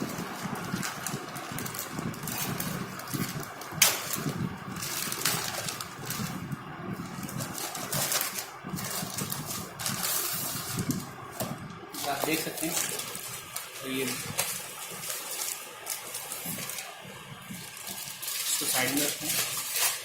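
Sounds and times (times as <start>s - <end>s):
packaging rustling: 0.0s - 20.0s.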